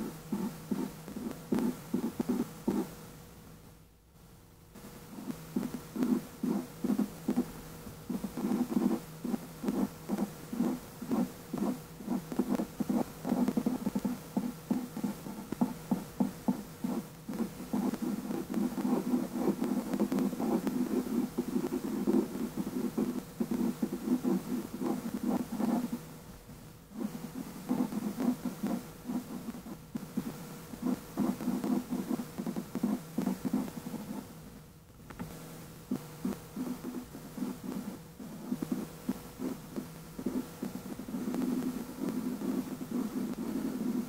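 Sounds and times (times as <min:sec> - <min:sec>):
marker pen scratching on paper: 0:00.0 - 0:02.9, 0:05.2 - 0:07.5, 0:08.1 - 0:26.0, 0:27.0 - 0:34.3, 0:36.2 - 0:39.6, 0:40.2 - 0:44.0.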